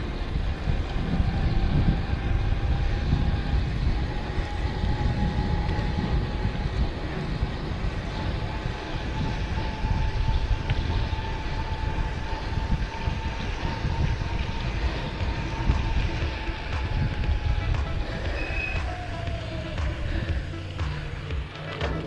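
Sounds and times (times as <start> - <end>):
electric motor whine: 0.0 - 22.0
wind buffeting microphone: 0.0 - 22.0.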